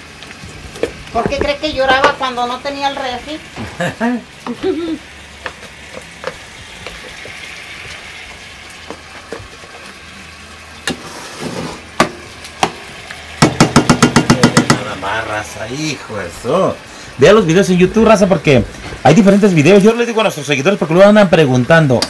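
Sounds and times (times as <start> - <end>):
beans sizzling in a pot: 0.0 - 22.0.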